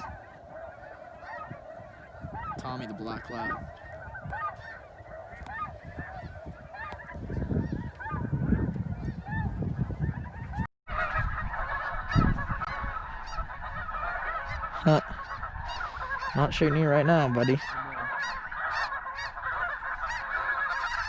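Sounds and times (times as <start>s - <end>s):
wind rumble on microphone: 0.0s - 17.1s
geese honking: 0.0s - 21.0s.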